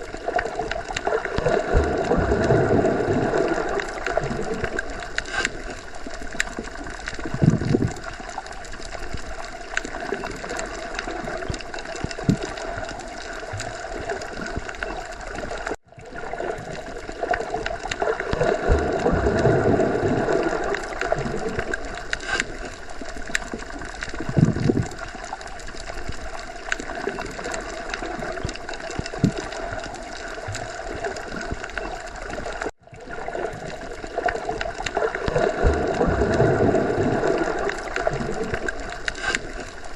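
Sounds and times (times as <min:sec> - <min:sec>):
muffled underwater water rumble: 0:00.0 - 0:39.9
water gurgling: 0:00.0 - 0:39.9.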